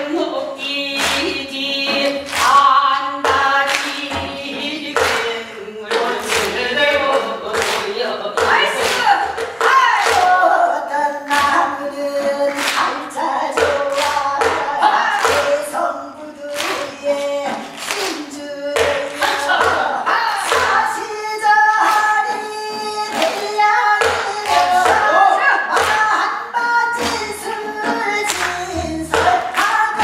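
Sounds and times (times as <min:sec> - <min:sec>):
voices singing folk song: 0:00.0 - 0:30.0
sharp percussive strokes: 0:00.1 - 0:30.0.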